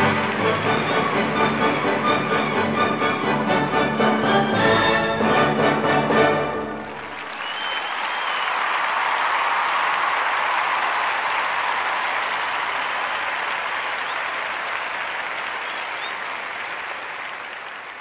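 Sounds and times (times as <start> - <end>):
crowd applauding: 0.0 - 4.4, 6.2 - 18.0.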